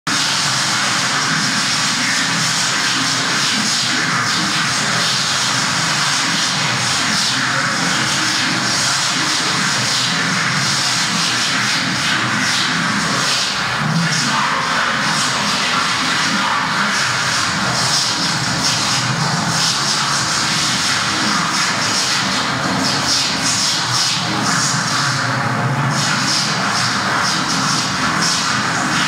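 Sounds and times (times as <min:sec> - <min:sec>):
loud steady rushing noise: 0:00.1 - 0:29.0.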